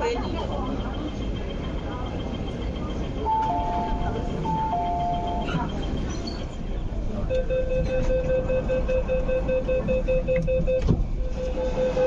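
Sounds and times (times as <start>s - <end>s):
hubbub of passengers: 0.0s - 12.0s
rapid repeating warning beep: 0.3s - 6.5s, 7.3s - 12.0s.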